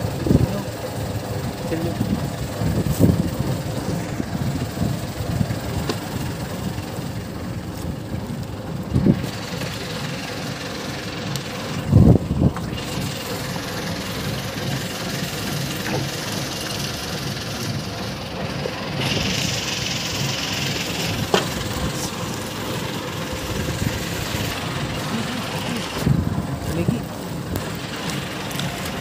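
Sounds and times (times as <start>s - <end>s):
small boat engine running: 0.0s - 29.0s.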